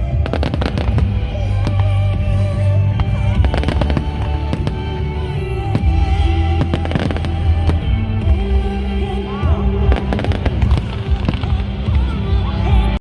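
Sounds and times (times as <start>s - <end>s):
loud music over sound system: 0.0s - 13.0s.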